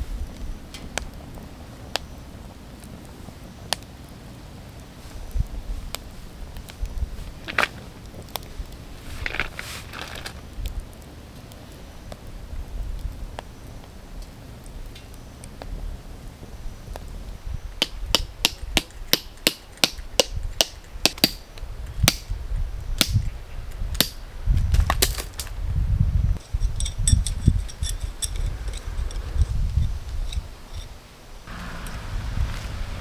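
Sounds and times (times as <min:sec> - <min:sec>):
wind rumble on microphone: 0:00.0 - 0:19.2, 0:20.0 - 0:33.0.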